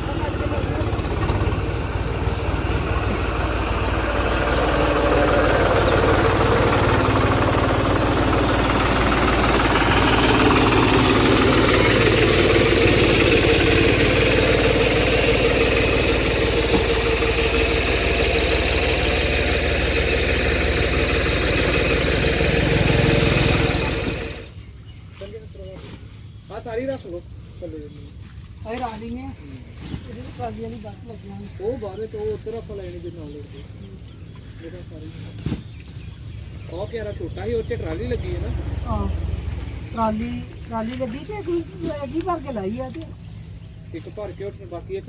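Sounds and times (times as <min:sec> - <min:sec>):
farm machine engine running: 0:00.0 - 0:25.0, 0:29.2 - 0:45.0.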